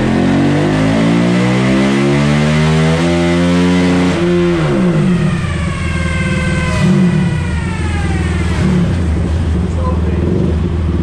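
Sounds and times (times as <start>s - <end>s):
quad engine revving and idling: 0.0s - 11.0s.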